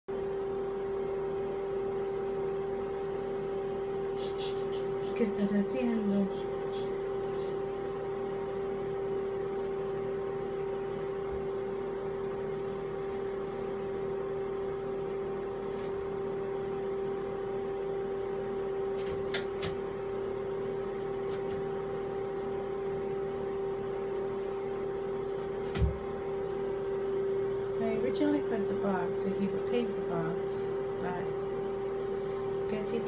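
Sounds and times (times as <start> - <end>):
machine hum with pitched tone: 0.1 - 33.0.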